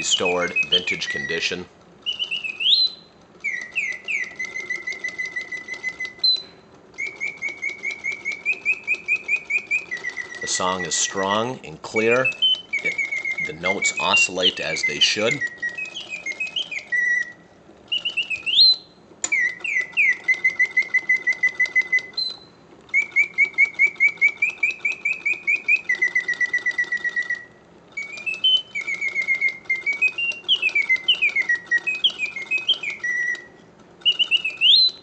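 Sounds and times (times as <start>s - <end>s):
mechanical bird whistling trills: 0.0s - 35.0s.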